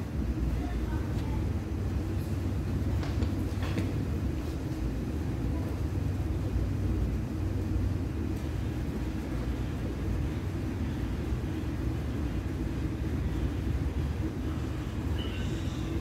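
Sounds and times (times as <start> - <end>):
faint hum: 0.0 - 16.0
low mechanical rumble: 0.0 - 16.0.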